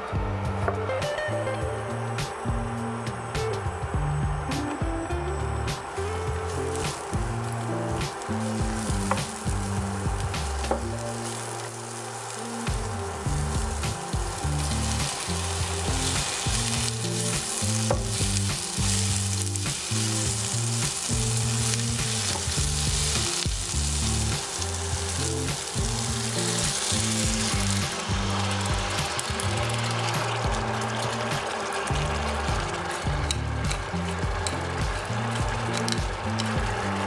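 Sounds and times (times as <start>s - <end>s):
vegetables sizzling in a frying pan: 2.8s - 37.0s
broth poured into hot pan: 6.5s - 37.0s.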